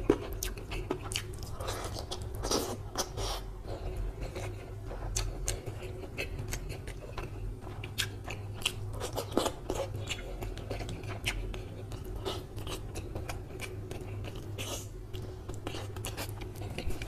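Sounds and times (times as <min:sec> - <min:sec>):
close chewing with wet mouth clicks: 0:00.0 - 0:17.0.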